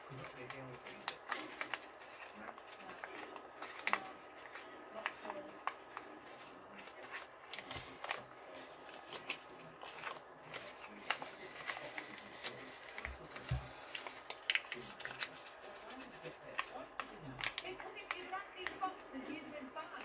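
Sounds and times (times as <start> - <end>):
paper rustling and crackling: 0.0 - 20.0.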